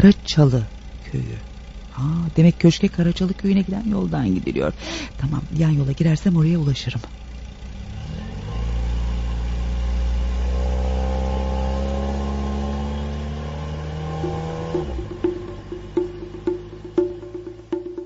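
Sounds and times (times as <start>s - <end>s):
car engine pulling away: 0.0s - 18.0s.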